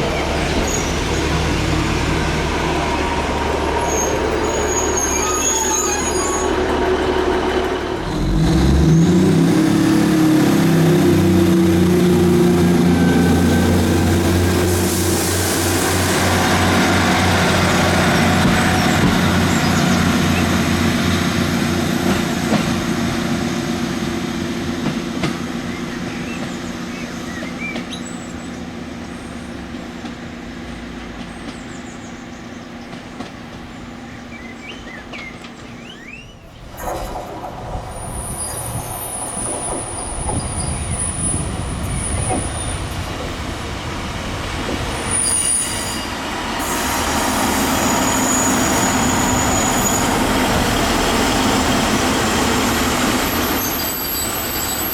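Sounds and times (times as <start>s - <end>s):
diesel train engine: 0.0s - 54.9s.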